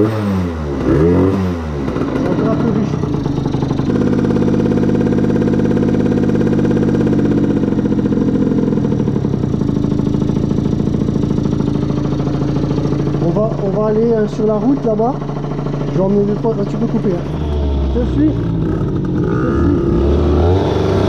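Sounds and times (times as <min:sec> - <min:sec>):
two-stroke motorcycle engine idling: 0:00.0 - 0:21.0.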